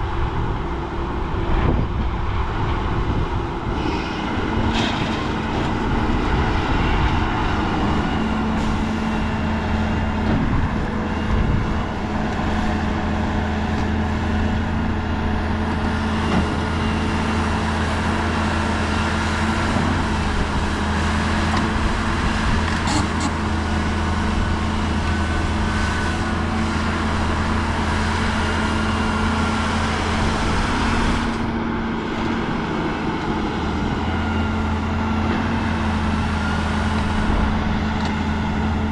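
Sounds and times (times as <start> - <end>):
heavy diesel machinery droning: 0.0 - 38.9.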